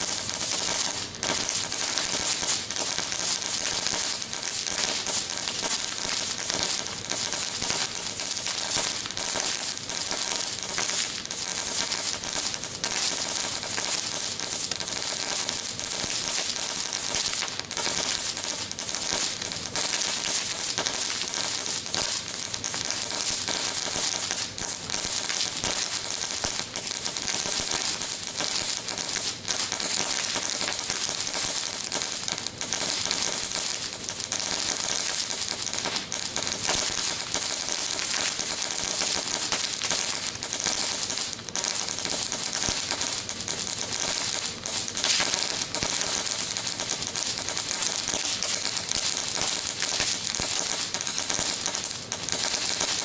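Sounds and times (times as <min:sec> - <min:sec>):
fountain firework hissing and popping: 0:00.0 - 0:53.0.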